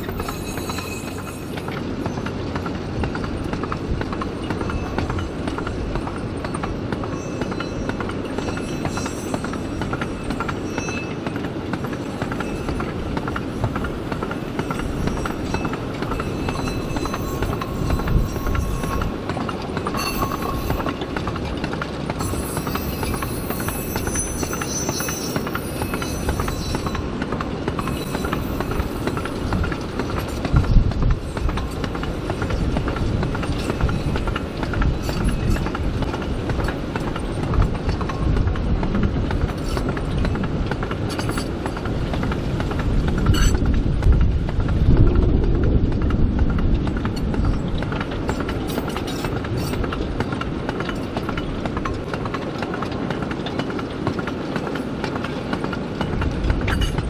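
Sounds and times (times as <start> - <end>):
train rumbling: 0.0 - 57.0
wheels clacking over rail joints: 0.0 - 57.0.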